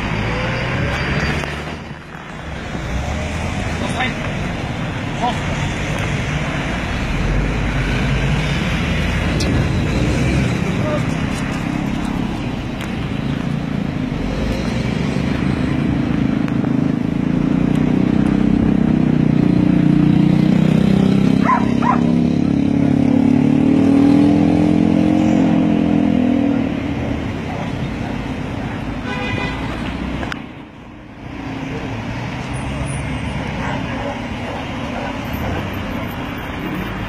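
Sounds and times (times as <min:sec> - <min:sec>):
motor vehicle engine: 0:00.0 - 0:37.0.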